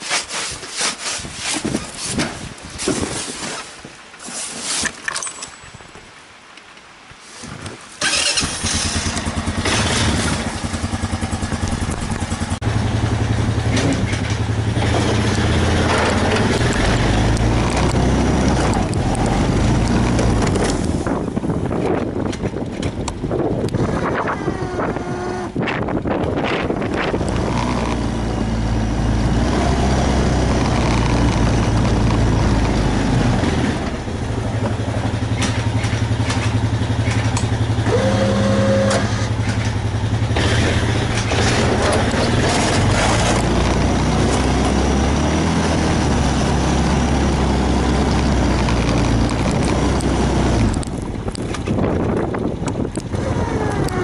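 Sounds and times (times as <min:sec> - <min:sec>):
engine running: 0:08.0 - 0:54.0.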